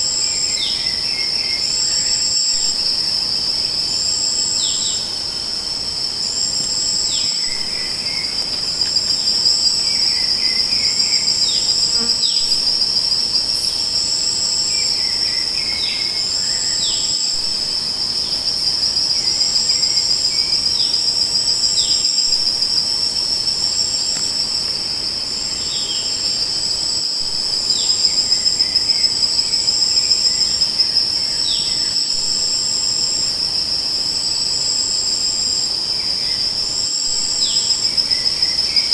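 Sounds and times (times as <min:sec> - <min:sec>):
crickets trilling: 0:00.0 - 0:38.9
insect call pulsing in high beats: 0:00.0 - 0:38.9.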